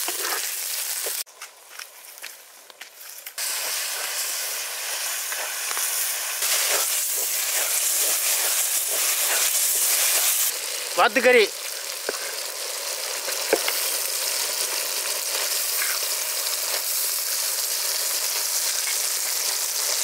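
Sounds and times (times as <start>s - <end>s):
meat sizzling in hot oil: 0.0s - 1.3s, 3.4s - 20.0s.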